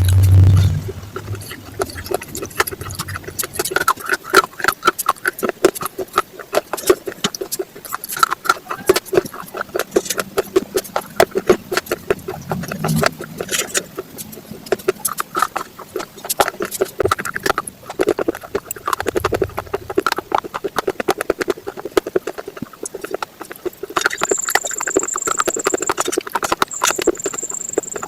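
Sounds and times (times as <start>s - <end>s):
crunching raw vegetables: 0.0s - 28.0s.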